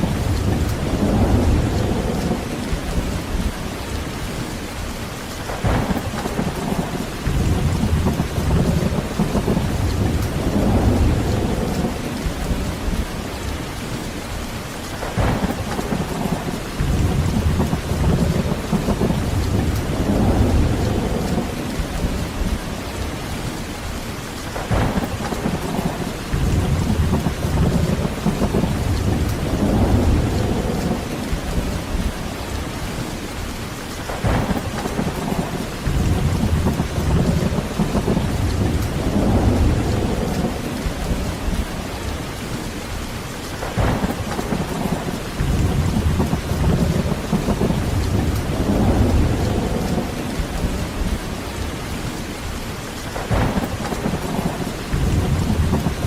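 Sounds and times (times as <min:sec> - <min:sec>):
rolling thunder: 0:00.0 - 0:04.8, 0:05.4 - 0:13.7, 0:14.9 - 0:56.0
heavy rain: 0:00.0 - 0:56.0.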